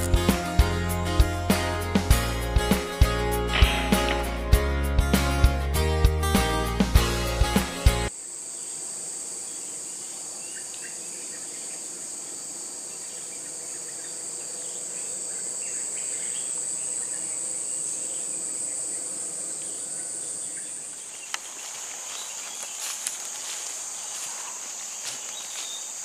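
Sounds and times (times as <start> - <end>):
high-pitched insect chorus: 2.6 - 4.9, 7.3 - 26.0.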